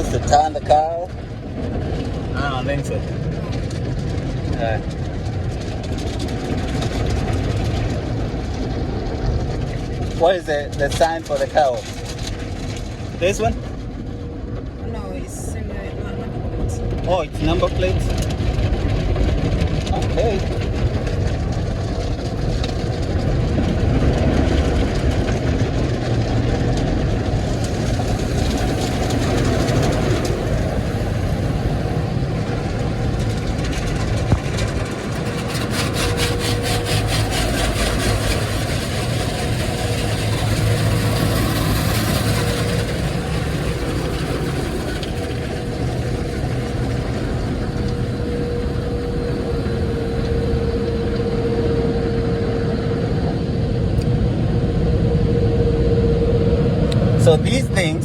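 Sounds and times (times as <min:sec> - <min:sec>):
car engine idling: 0:00.0 - 0:54.8
car wash water spray and machinery: 0:00.0 - 0:58.0
low rumble: 0:00.0 - 0:58.0.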